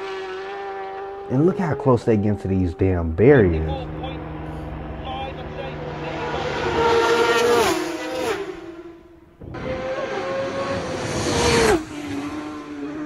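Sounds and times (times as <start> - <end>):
racing motorcycles passing: 0.0 - 13.0.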